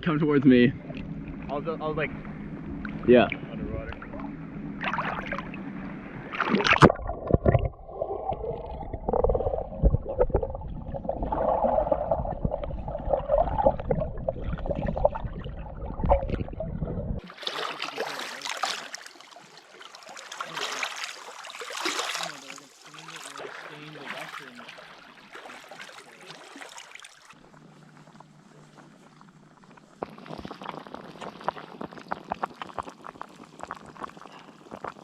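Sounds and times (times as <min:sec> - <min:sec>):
underwater gurgling and sloshing: 0:00.0 - 0:35.0.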